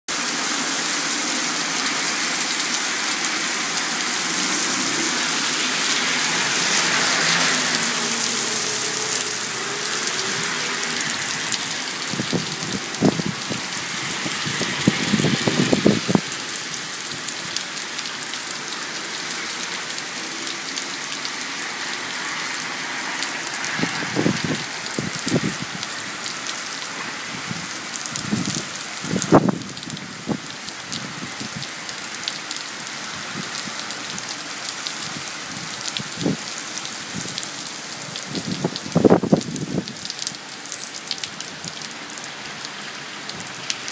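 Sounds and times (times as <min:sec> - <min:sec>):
heavy rain on a wet street: 0:00.1 - 0:43.9.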